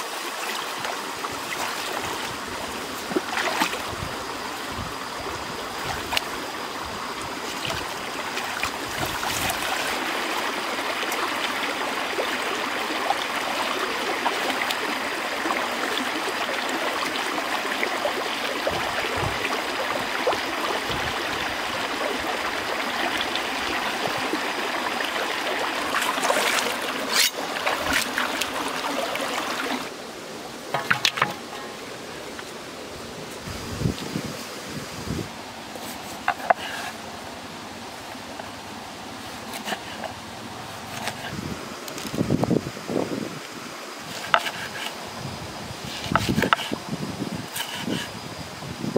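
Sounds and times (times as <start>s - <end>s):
stream running over rocks: 0.0s - 48.9s.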